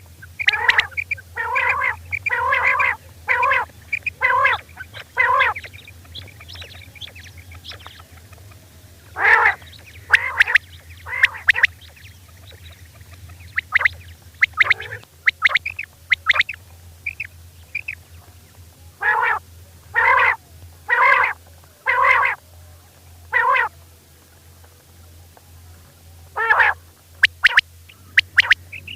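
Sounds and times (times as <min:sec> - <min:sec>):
faint chirps: 0:00.0 - 0:23.7, 0:25.4 - 0:28.9
low steady hum: 0:00.0 - 0:28.9
quail calling: 0:00.1 - 0:18.1, 0:19.0 - 0:22.4, 0:23.2 - 0:23.7, 0:26.3 - 0:28.9.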